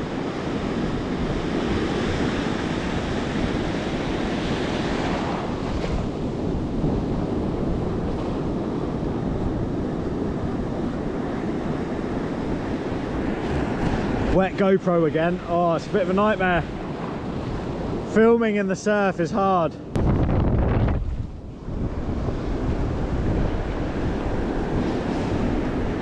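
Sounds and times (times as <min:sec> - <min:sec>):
wind buffeting microphone: 0:00.0 - 0:18.2, 0:19.8 - 0:26.0
surf waves breaking: 0:00.0 - 0:26.0.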